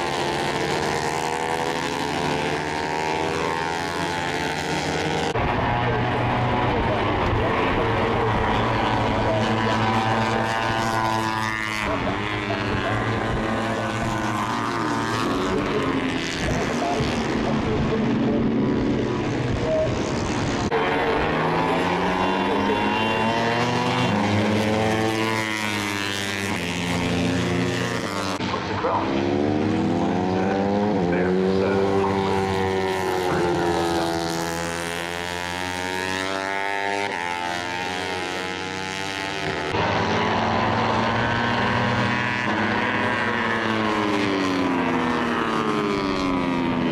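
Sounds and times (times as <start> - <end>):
racing motorcycles passing: 0.0 - 46.9.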